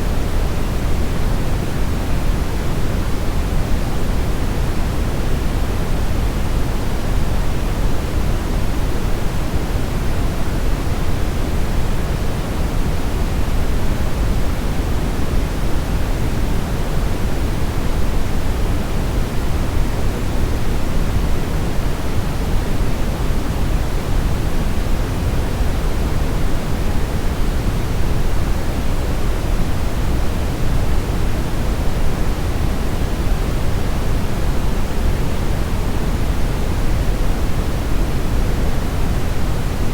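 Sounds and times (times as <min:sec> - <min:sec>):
brown noise rumbling hiss: 0:00.0 - 0:39.9.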